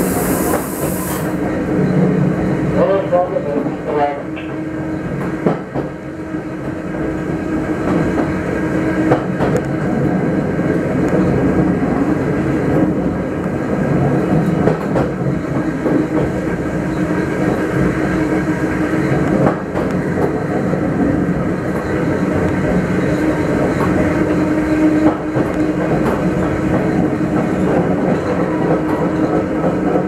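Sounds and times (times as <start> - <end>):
train wheels humming and rumbling: 0.0 - 30.0
rail joint clicks: 3.6 - 12.1, 12.7 - 30.0.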